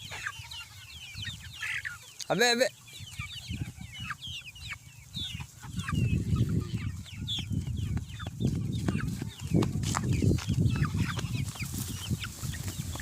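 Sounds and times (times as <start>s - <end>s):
chickens clucking and cheeping: 0.0s - 13.0s.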